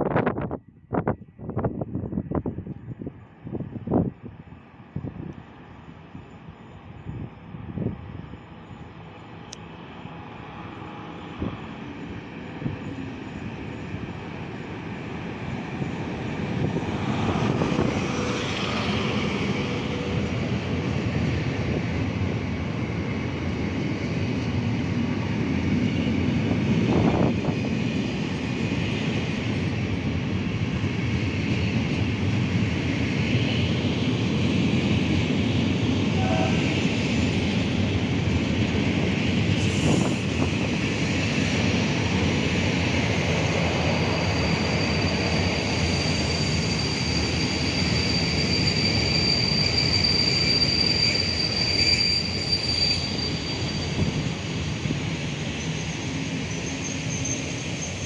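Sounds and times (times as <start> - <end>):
diesel locomotive engine: 0.0 - 58.0
train wheels rumbling on rails: 0.0 - 58.0.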